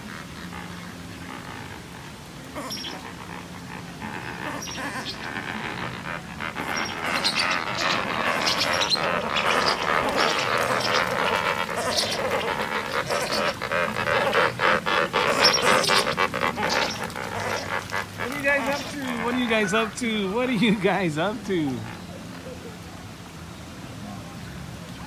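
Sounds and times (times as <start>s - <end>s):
flamingos honking: 0.0s - 23.2s.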